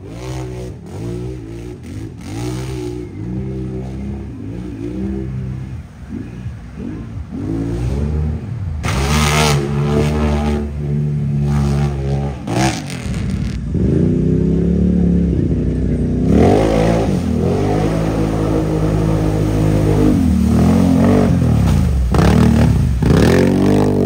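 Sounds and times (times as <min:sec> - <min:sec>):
atv engines revving in mud: 0:00.0 - 0:24.0.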